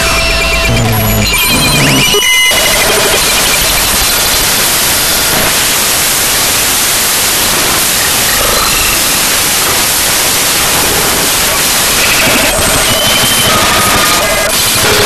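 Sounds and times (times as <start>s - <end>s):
static hiss: 0.6s - 15.0s.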